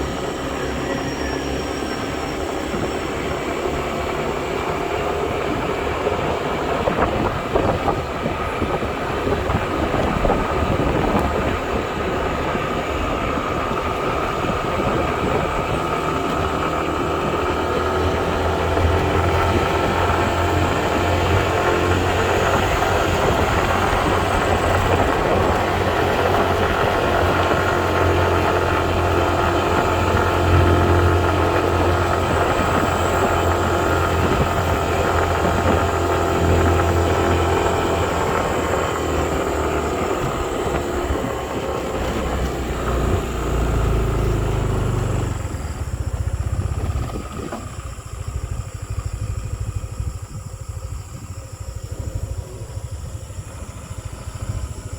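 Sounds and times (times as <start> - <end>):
vehicle engine humming: 0.0 - 54.9.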